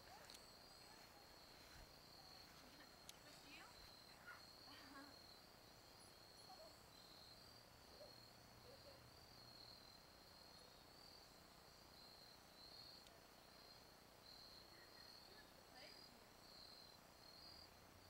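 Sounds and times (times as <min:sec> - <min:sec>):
faint crickets chirping: 0:00.0 - 0:18.0.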